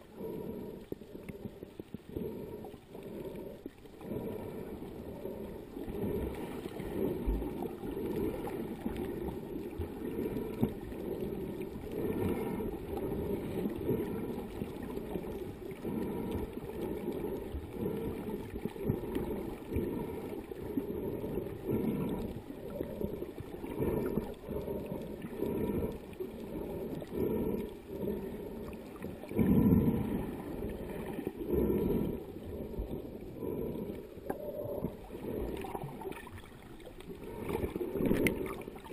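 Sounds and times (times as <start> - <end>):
muffled underwater sloshing: 0.0 - 38.9.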